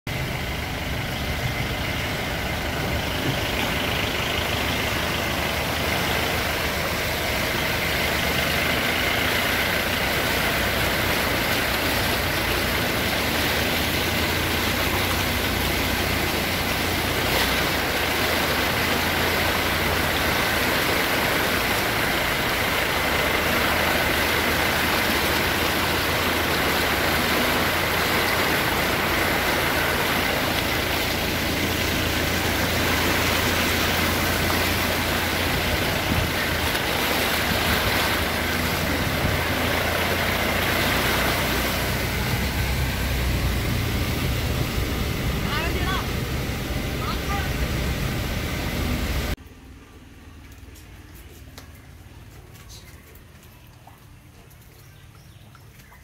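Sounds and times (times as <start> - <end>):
vehicle engine running: 0.0 - 55.7
rushing water noise: 0.1 - 49.4.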